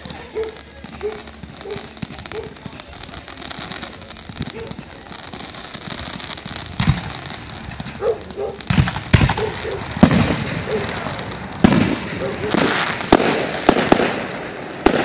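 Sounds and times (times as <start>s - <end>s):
fireworks booms: 0.0s - 15.0s
fireworks crackling: 0.0s - 15.0s.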